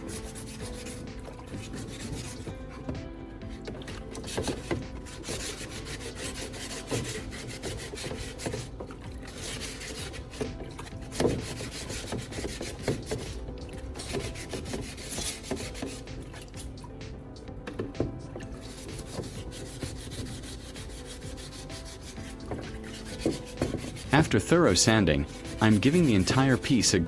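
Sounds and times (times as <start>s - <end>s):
sandpaper rubbing by hand: 0.0s - 2.9s, 3.7s - 16.9s, 18.4s - 27.0s.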